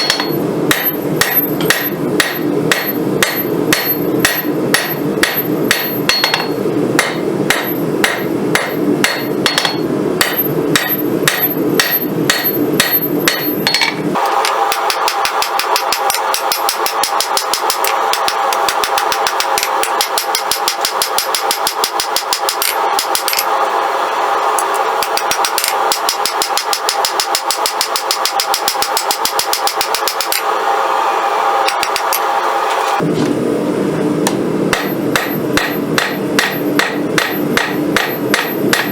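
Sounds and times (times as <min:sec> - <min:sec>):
hammer striking steel on anvil: 0:00.0 - 0:23.5, 0:24.6 - 0:30.5, 0:31.6 - 0:32.3, 0:34.2 - 0:38.9.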